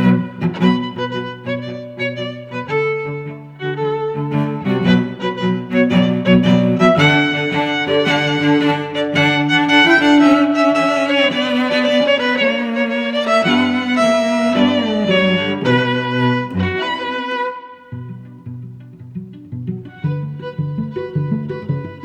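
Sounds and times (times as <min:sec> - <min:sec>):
bowed string music: 0:00.0 - 0:22.0.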